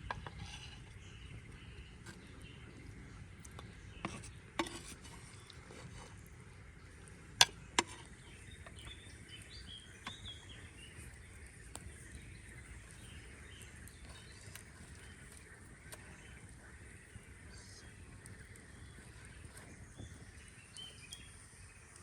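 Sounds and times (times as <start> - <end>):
faint outdoor background: 0.0 - 22.0.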